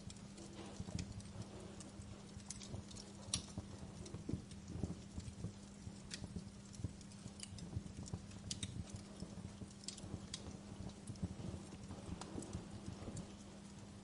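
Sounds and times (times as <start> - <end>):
steady low hum: 0.0 - 14.0
wood fire crackling and popping: 0.0 - 14.0.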